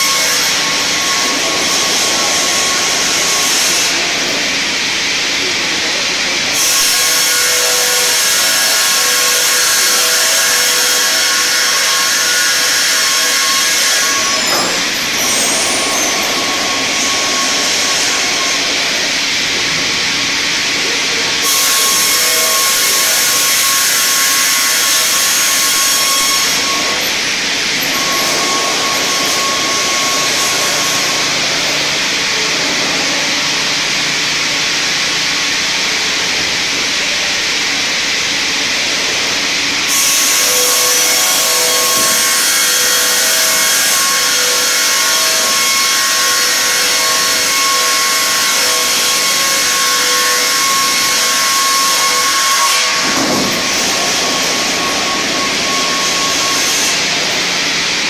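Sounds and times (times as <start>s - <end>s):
circular sawmill running: 0.0s - 58.0s
saw head whine: 0.0s - 58.0s.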